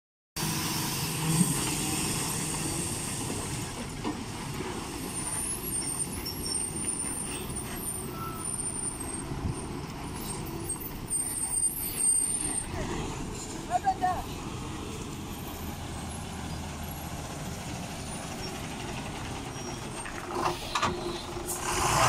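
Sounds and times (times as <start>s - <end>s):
diesel engine rumble: 0.4s - 22.0s
road noise: 0.4s - 22.0s.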